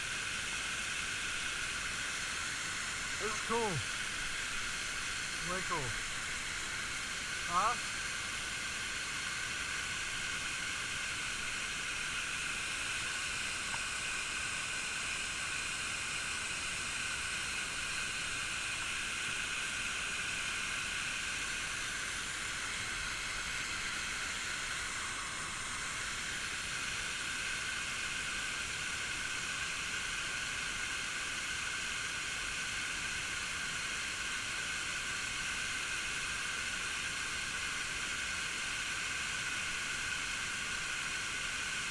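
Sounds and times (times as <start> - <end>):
waterfall hiss: 0.0 - 41.9.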